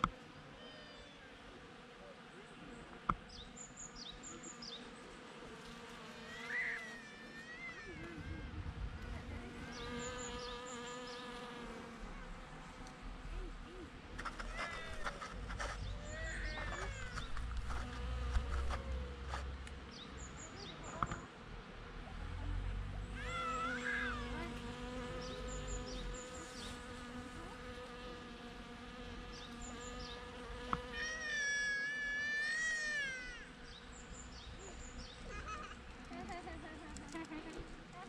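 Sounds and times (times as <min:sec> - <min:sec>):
bees buzzing: 0:01.3 - 0:13.6, 0:14.2 - 0:21.1, 0:23.2 - 0:37.6.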